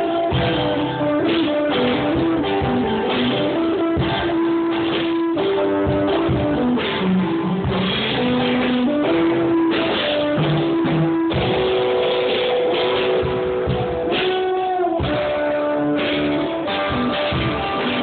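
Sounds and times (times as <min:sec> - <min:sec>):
drum beat: 0:00.0 - 0:18.0
guitar band music: 0:00.0 - 0:18.0.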